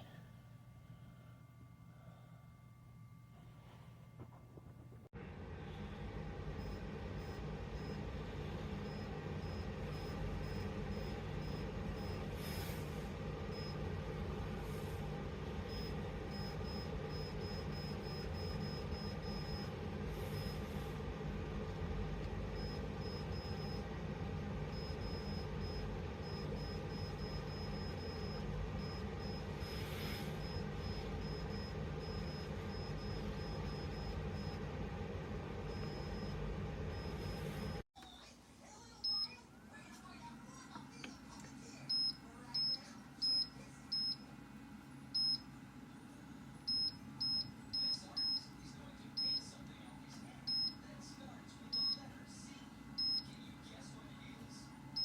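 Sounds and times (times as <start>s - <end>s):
humidifier low hum: 0.0s - 55.0s.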